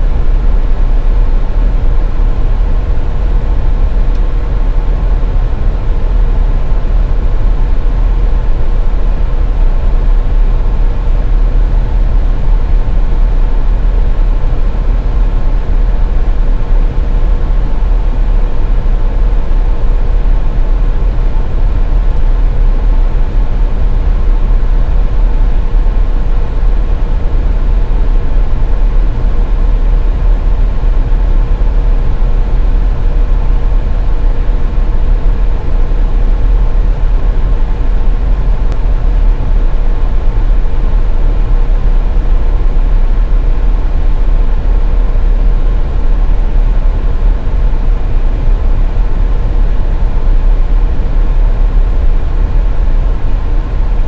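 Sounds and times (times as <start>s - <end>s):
faint steady whine: 0.0s - 54.0s.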